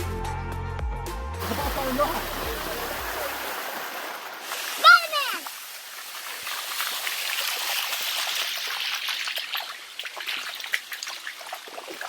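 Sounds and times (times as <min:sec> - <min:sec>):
small water splashes: 0:01.4 - 0:12.0
water trickling over rock: 0:01.4 - 0:12.0.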